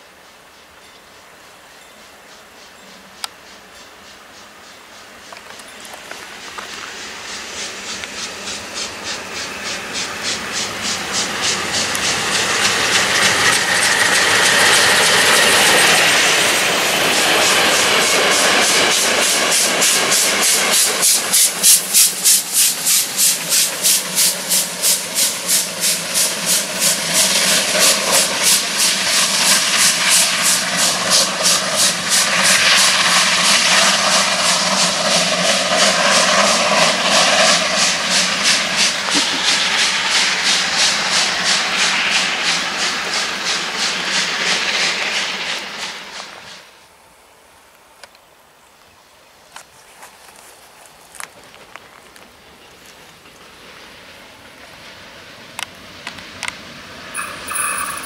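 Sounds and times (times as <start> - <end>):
steam locomotive chuffing: 0.0 - 46.8, 52.1 - 58.0.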